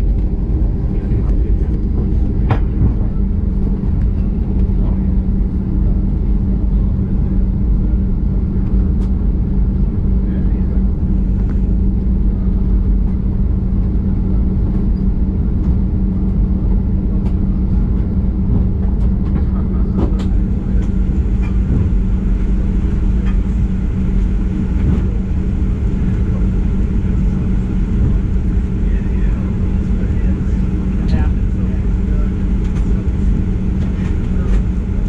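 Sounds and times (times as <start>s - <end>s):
airplane cabin engine drone: 0.0s - 35.0s.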